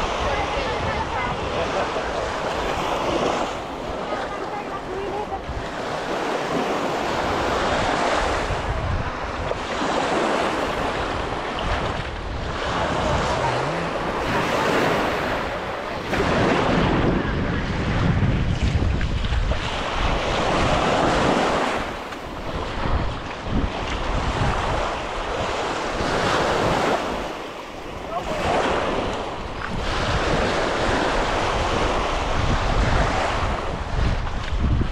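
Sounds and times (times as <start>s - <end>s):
ocean surf on beach: 0.0s - 34.9s
wind noise on microphone: 0.0s - 34.9s.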